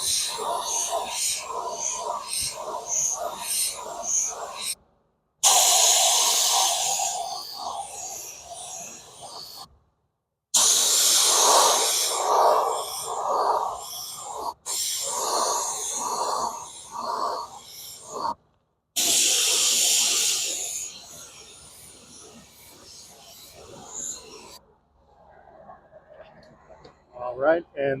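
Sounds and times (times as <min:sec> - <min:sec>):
paint spray hissing: 0:00.0 - 0:04.8, 0:05.4 - 0:09.7, 0:10.6 - 0:18.4, 0:19.0 - 0:24.6.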